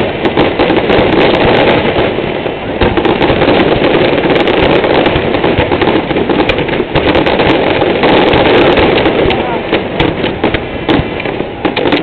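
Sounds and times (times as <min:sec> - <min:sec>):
fireworks banging and crackling: 0:00.0 - 0:12.0.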